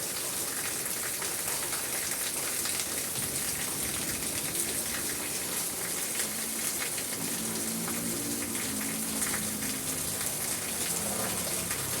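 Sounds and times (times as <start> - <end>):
raindrops striking a surface: 0.0 - 12.0
steady rain falling: 0.0 - 12.0.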